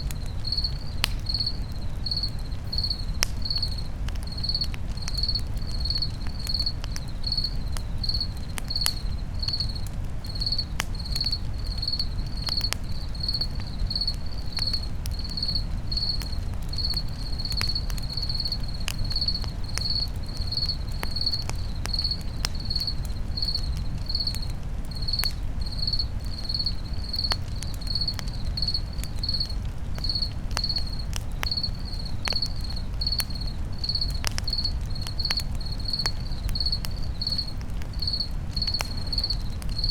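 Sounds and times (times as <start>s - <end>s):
campfire crackling: 0.0s - 39.9s
cricket chirping: 0.0s - 39.9s.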